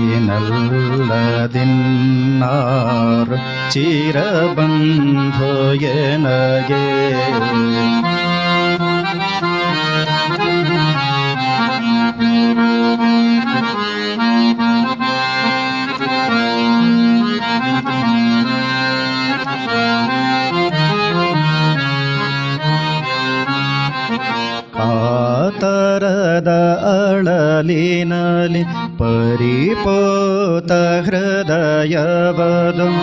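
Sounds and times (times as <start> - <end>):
harmonium melody: 0.0 - 33.0.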